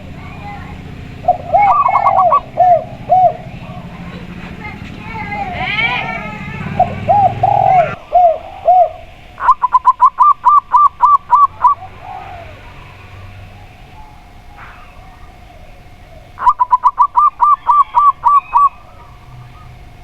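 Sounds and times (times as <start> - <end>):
dove cooing low: 0.0 - 20.0
dove staccato cooing: 0.0 - 20.0.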